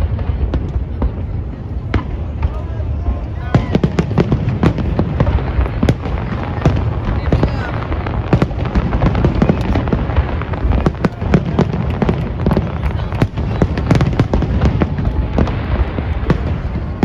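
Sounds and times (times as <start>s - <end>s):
low rumble of booms: 0.0s - 17.0s.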